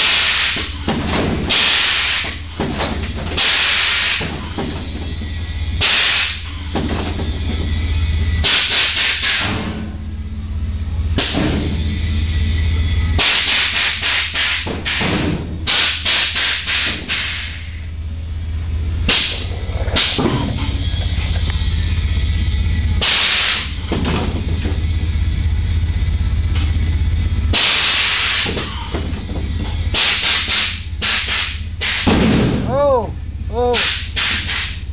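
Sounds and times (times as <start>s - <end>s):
air suspension hissing bursts: 0.0s - 10.0s, 11.2s - 18.0s, 19.0s - 24.9s, 27.5s - 32.7s, 33.7s - 34.9s
steady low hum: 0.0s - 34.9s.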